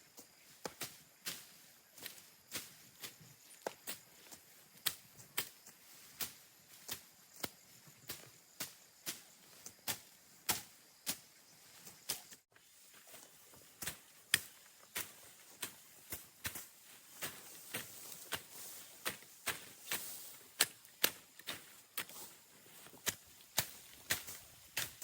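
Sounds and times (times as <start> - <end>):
hand tool chopping soil: 0.6 - 12.4, 13.3 - 25.0.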